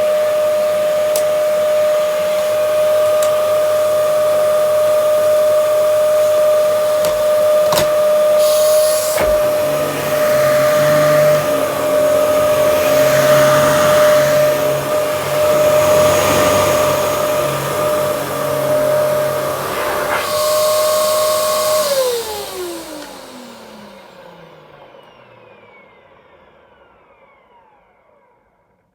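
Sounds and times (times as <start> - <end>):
upright vacuum cleaner running: 0.0 - 28.3
vacuum motor winding down: 0.0 - 28.4.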